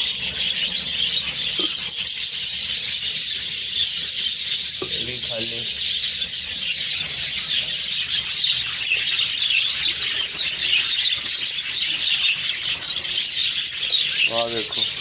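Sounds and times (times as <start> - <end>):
parrots chirping and chattering: 0.0 - 15.0.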